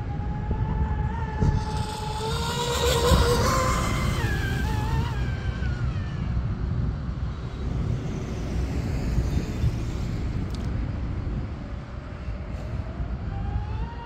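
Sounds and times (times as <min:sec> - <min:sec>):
rc boat motors whining: 0:00.0 - 0:14.0.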